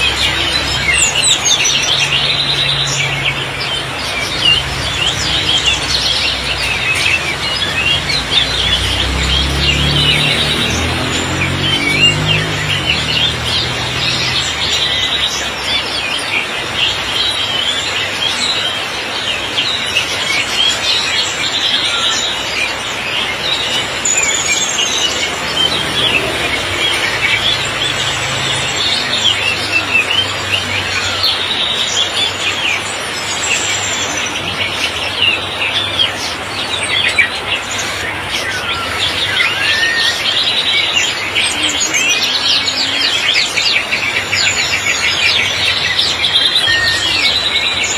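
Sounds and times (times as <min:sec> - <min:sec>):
songbirds chirping and twittering: 0:00.0 - 0:47.9.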